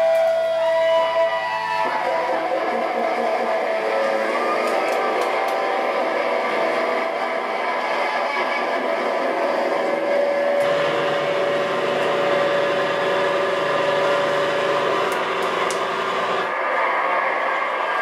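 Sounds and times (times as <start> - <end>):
amplified guitars droning: 0.0 - 18.0.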